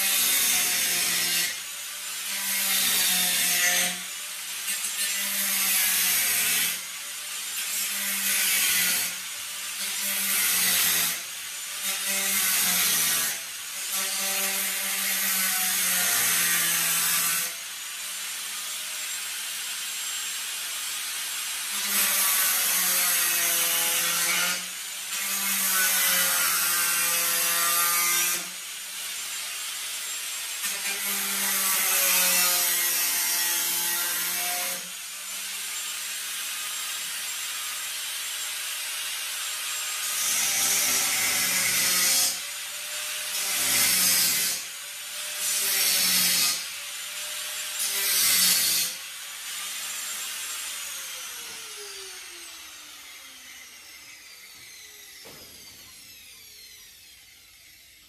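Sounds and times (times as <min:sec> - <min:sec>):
angle grinder cutting steel: 0:00.0 - 0:58.0.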